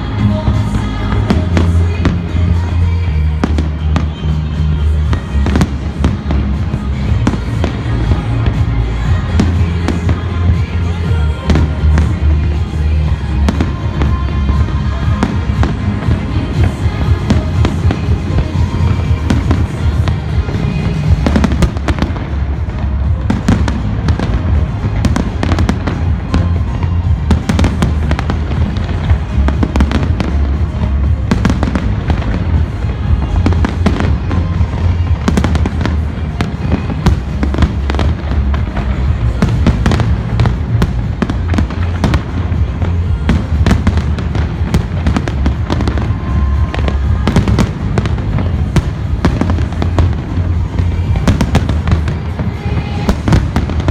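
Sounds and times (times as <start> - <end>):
fireworks bangs and crackles: 0.0 - 53.9
music playing: 0.0 - 53.9.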